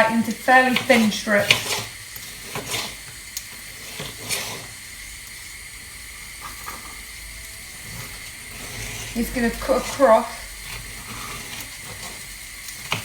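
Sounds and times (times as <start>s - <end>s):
onion sizzling in a pan: 0.0s - 13.0s.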